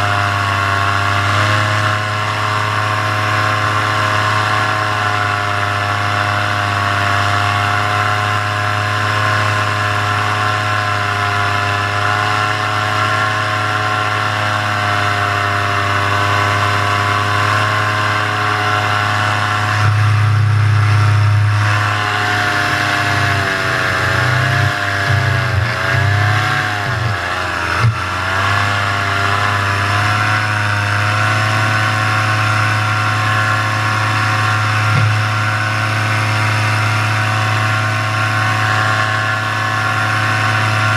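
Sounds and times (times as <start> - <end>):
paramotor engine droning: 0.0 - 40.9.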